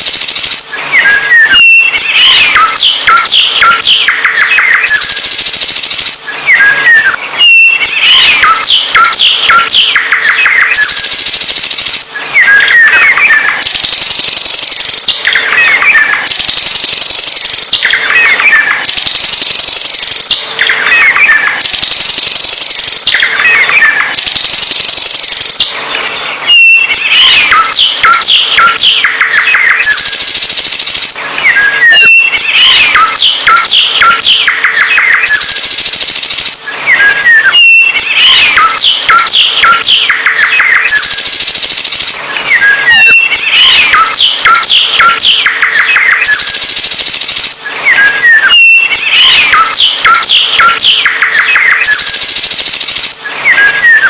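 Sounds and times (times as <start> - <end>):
songbird singing: 0.0 - 35.7, 36.5 - 41.4, 42.1 - 46.6, 47.4 - 52.2.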